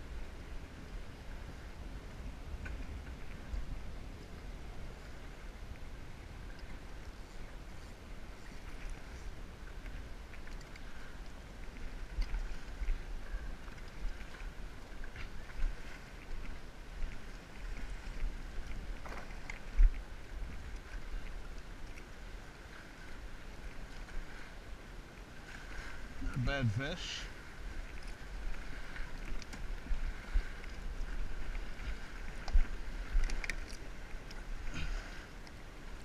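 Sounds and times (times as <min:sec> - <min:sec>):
small waves lapping at dock: 0:00.0 - 0:36.0
wind rumbling on microphone: 0:00.0 - 0:36.0.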